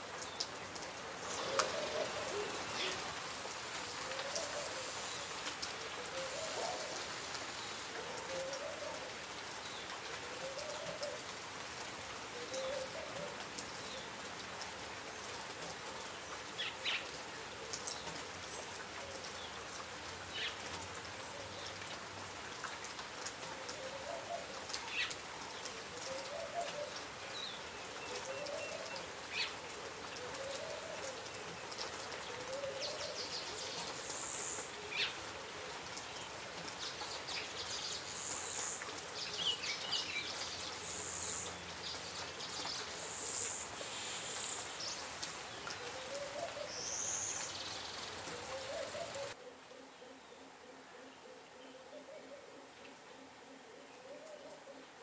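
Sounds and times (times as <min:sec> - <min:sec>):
rain falling on large leaves: 0:00.0 - 0:55.0.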